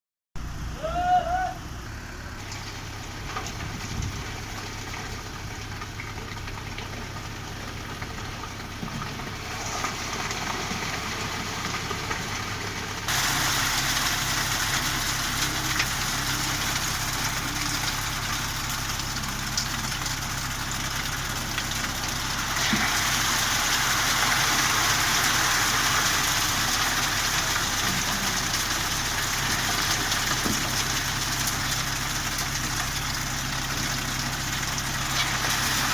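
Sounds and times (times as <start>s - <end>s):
engine idling: 0.4s - 35.9s.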